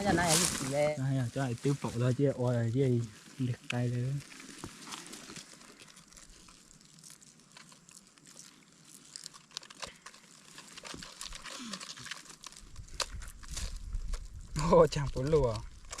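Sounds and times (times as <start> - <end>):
crinkling handling noises: 0.0 - 16.0.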